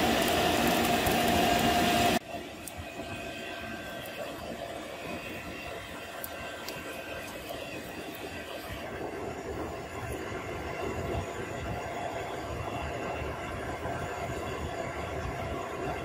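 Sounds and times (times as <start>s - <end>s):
charcoal fire rushing: 0.0s - 16.0s
fire crackles: 0.0s - 16.0s.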